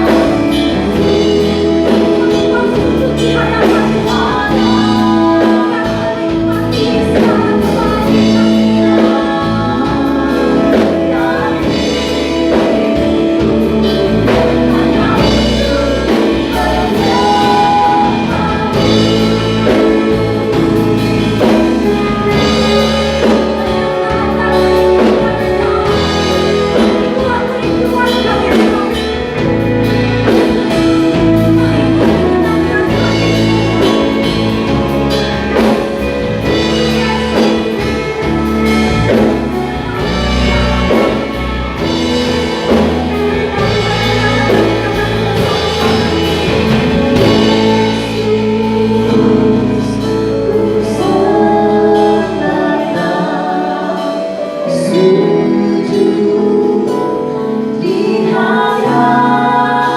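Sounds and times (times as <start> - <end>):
drums: 0.0 - 59.9
singers with band playing: 0.0 - 59.9.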